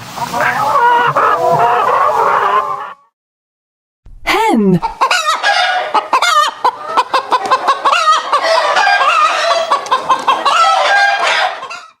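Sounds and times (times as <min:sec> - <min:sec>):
hens clucking: 0:00.0 - 0:03.1, 0:04.8 - 0:12.0.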